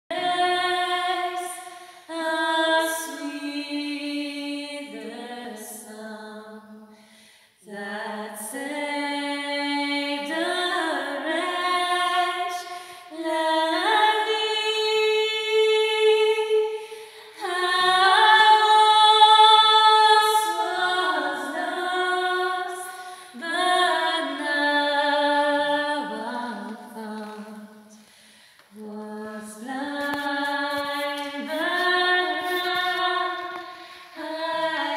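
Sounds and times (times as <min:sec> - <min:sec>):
women singing a cappella: 0:00.1 - 0:34.9.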